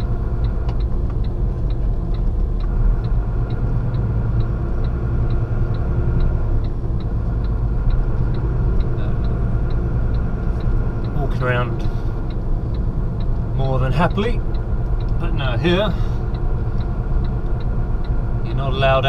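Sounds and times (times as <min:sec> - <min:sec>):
hazard light flasher ticking: 0:00.0 - 0:19.0
lorry diesel engine running: 0:00.0 - 0:19.0.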